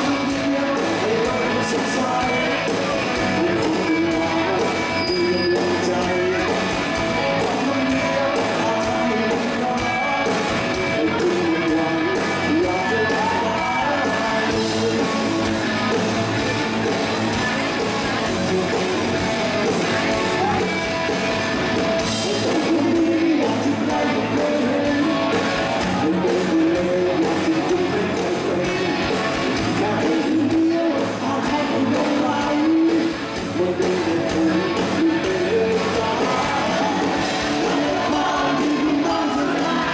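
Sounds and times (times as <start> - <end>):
man singing: 0.0 - 20.9, 22.0 - 39.9
bass: 0.0 - 39.9
drums: 0.0 - 39.9
electric guitars: 0.0 - 39.9.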